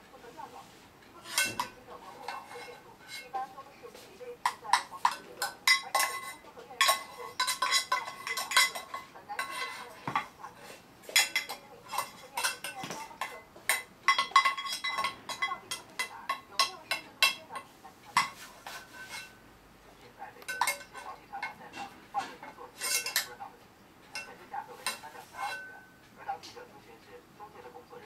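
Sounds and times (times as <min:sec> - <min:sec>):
utensil clanking in a pan: 0:01.2 - 0:03.4, 0:04.4 - 0:19.4, 0:20.4 - 0:26.1.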